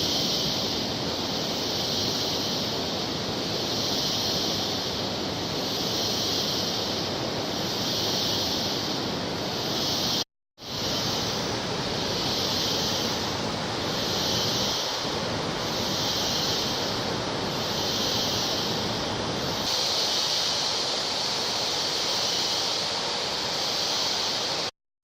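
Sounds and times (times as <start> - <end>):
high hiss: 0.0 - 24.7.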